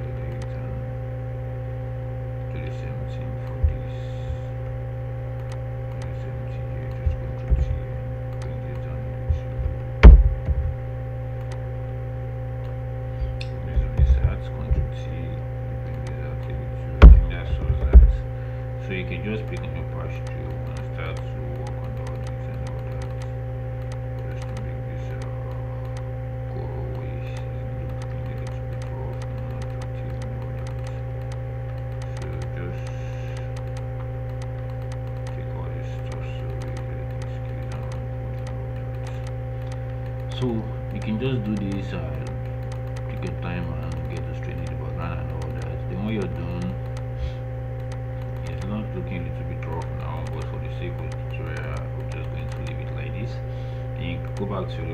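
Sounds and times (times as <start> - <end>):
faint clicks: 0.0 - 0.7, 5.4 - 10.8, 11.4 - 11.7, 12.6 - 54.9
electrical hum: 0.0 - 54.9
low thumps: 3.1 - 53.5.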